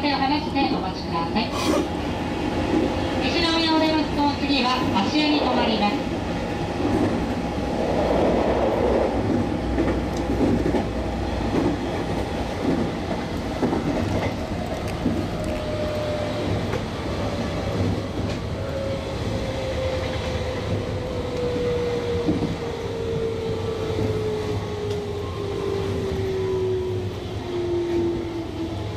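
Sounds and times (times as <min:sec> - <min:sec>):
train wheel and rail rumble: 0:00.0 - 0:28.9.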